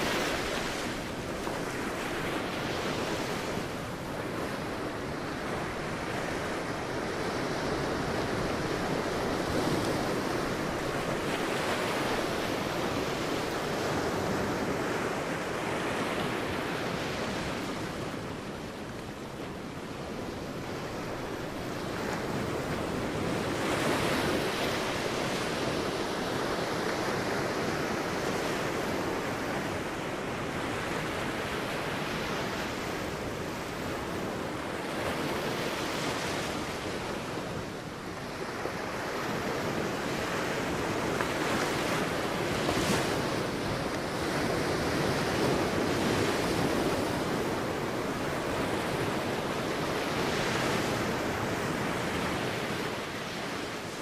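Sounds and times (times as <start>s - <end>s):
sea waves breaking on beach: 0.0s - 54.0s
wind: 0.0s - 54.0s.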